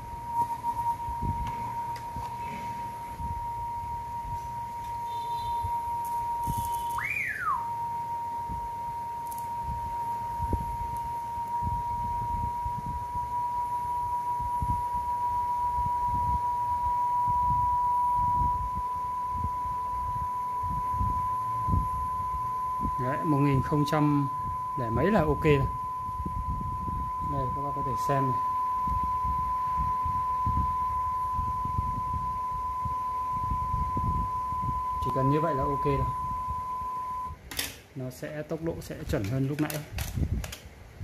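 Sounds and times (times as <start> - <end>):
test tone from cassette player: 0.0 - 37.4.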